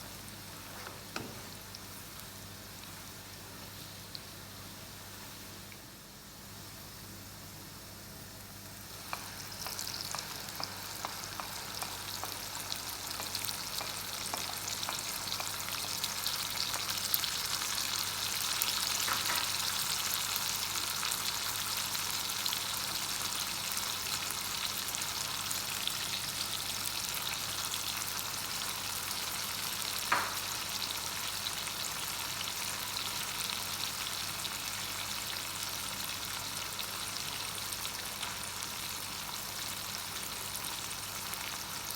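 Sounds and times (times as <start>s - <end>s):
food sizzling in hot oil: 0.0s - 41.9s.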